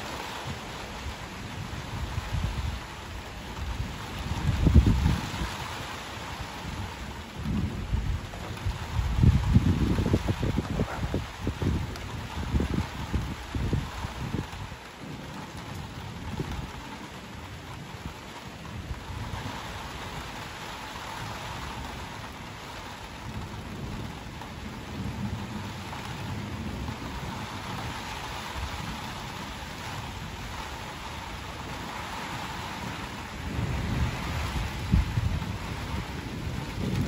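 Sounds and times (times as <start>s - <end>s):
steady rain falling: 0.0s - 37.0s
rumble of thunder: 0.4s - 5.8s, 6.4s - 20.6s, 21.2s - 37.0s.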